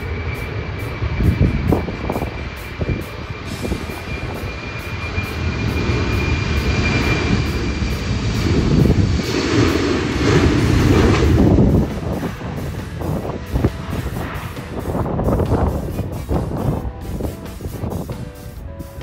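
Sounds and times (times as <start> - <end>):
jet engines passing: 0.0 - 19.0.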